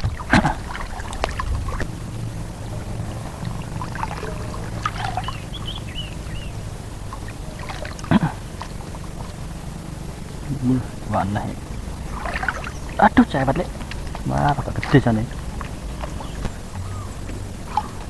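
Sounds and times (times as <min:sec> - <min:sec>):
motorboat engine hum: 0:00.0 - 0:18.0
faint high chirps: 0:00.1 - 0:18.0.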